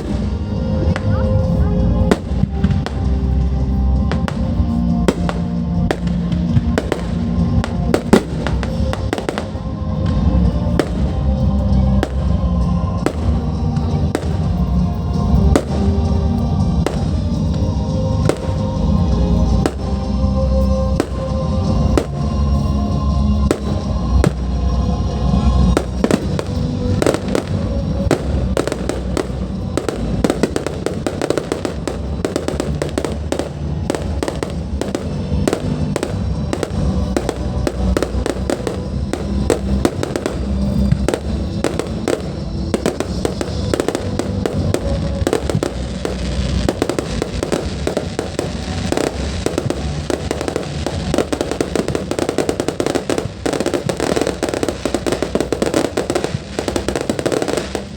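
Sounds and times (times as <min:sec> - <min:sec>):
fireworks bangs and crackles: 0:00.0 - 0:57.9
music playing: 0:00.0 - 0:57.9.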